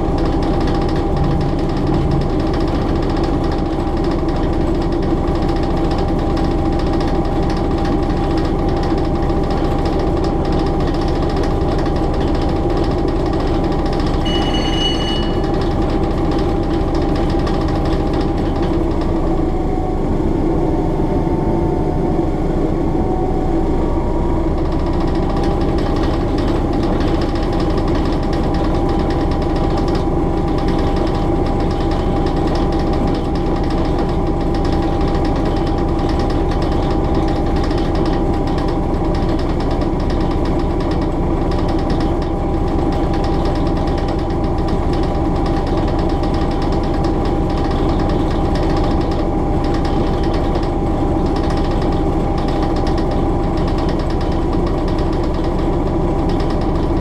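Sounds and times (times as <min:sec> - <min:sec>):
diesel train engine running: 0:00.0 - 0:57.0.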